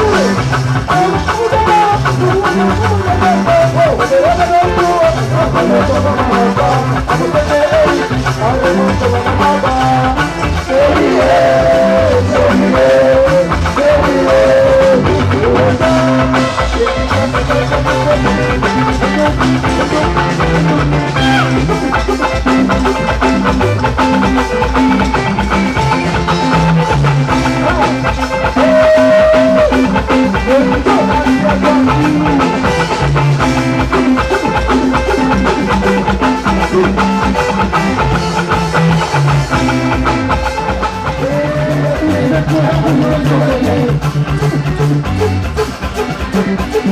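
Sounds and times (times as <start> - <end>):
person singing: 0.0 - 25.2, 25.8 - 38.5, 40.7 - 46.9
drum beat: 0.0 - 46.9
guitar: 0.0 - 46.9.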